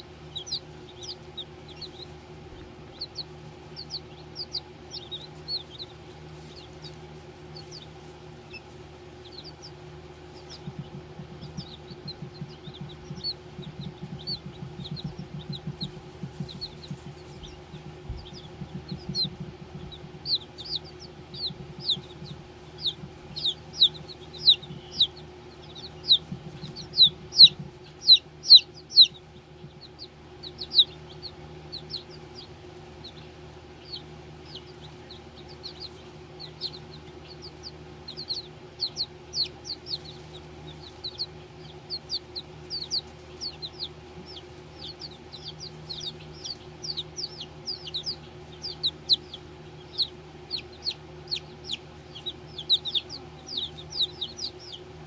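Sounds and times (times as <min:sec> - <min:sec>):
baby chicks peeping: 0:00.0 - 0:55.0
steady low hum: 0:00.0 - 0:55.0.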